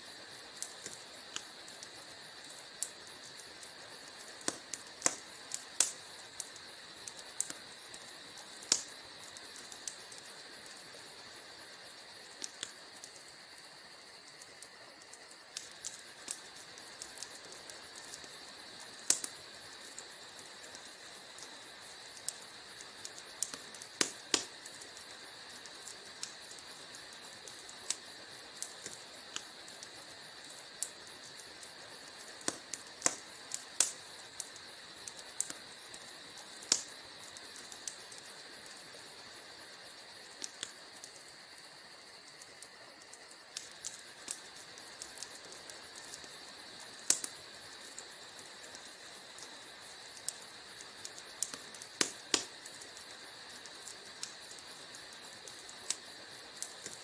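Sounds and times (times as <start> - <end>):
fire hissing: 0.0 - 57.0
wood fire crackling and popping: 0.0 - 57.0.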